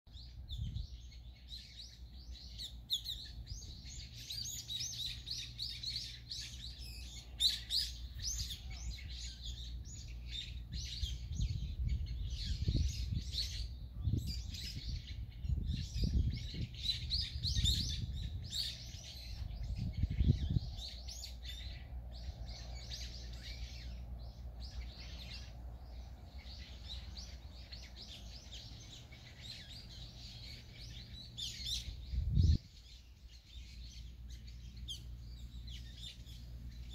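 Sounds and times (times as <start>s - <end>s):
small birds chirping: 0.1s - 36.9s.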